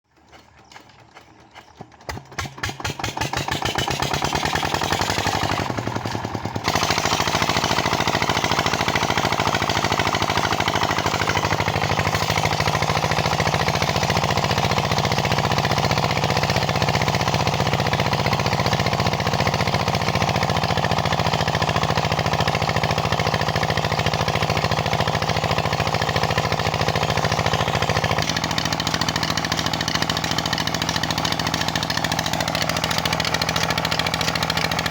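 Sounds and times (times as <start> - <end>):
diesel pump engine running: 0.1 - 34.9.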